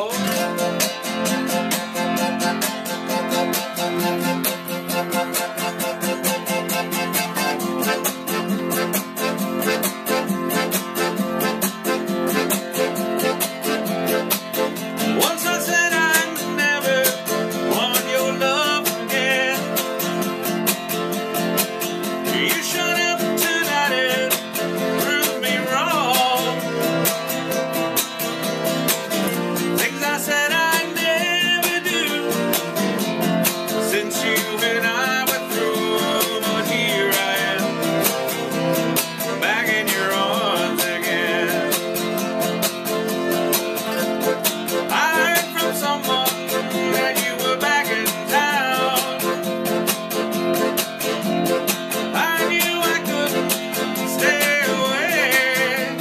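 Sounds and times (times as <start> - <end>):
button accordion playing: 0.0 - 56.0
strummed acoustic guitar: 0.0 - 56.0.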